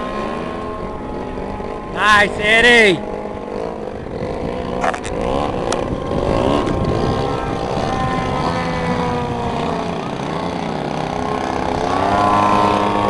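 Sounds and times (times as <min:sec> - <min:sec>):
model plane engines: 0:00.0 - 0:13.0.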